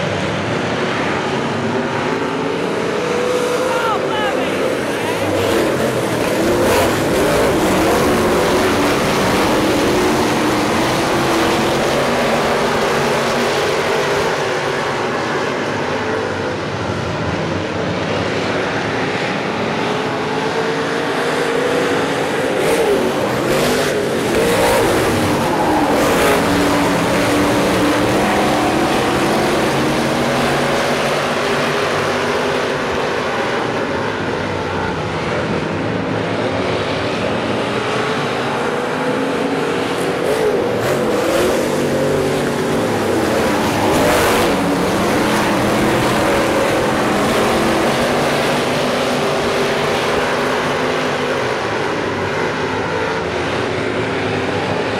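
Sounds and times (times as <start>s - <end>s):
race car engines: 0.0s - 54.9s.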